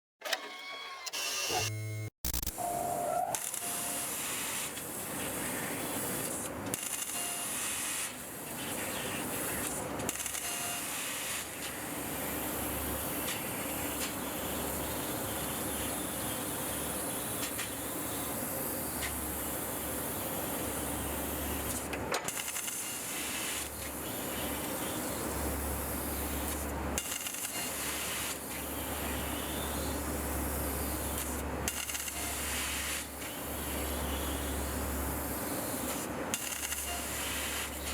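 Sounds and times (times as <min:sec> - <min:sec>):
laser cutter hissing: 0:03.3 - 0:37.9.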